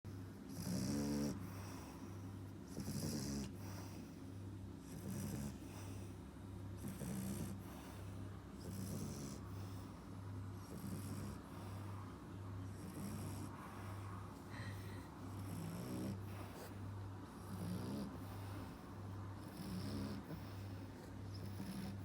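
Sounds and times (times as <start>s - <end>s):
puppy snoring: 0.5s - 22.0s.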